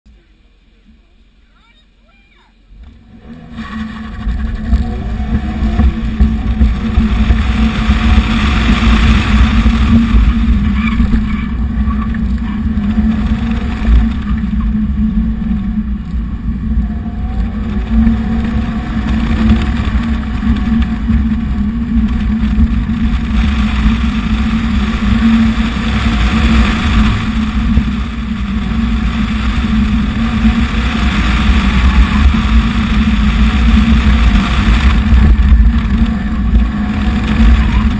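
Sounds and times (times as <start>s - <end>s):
low rumble: 0.1s - 37.9s
car engine accelerating and braking: 2.6s - 37.9s
wind noise on microphone: 2.7s - 37.9s.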